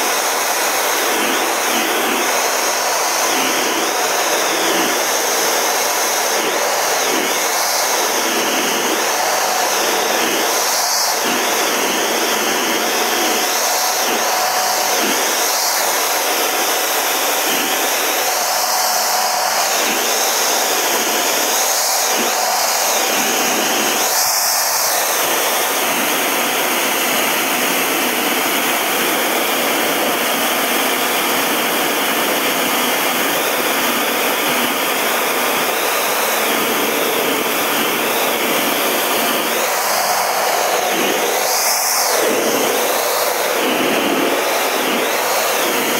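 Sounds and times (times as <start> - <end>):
jet engine rushing in cockpit: 0.0 - 45.9.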